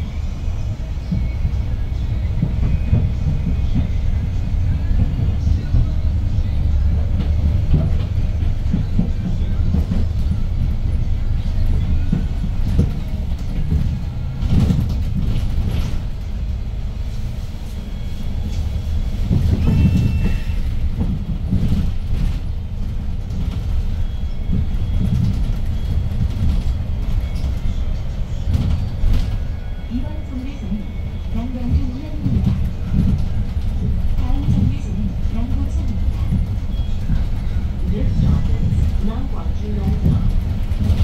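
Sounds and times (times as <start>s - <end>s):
bus engine rumbling: 0.0s - 41.0s
road noise: 0.0s - 41.0s.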